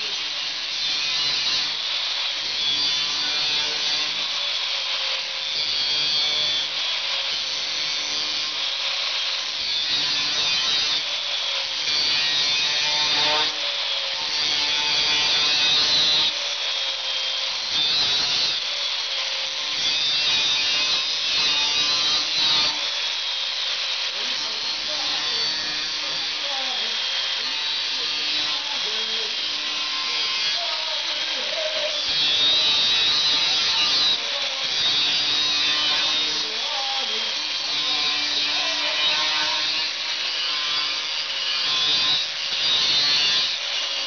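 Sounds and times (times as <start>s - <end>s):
angle grinder cutting sheet steel: 0.0s - 44.0s.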